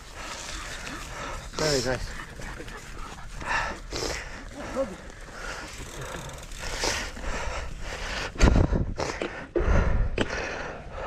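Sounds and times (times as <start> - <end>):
bike tyres rattling on dirt trail: 0.0 - 9.0.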